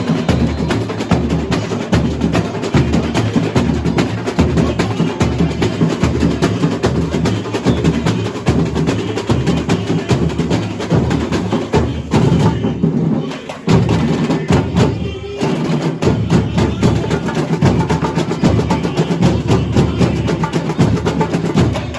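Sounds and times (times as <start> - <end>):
samba drumming: 0.0 - 21.9.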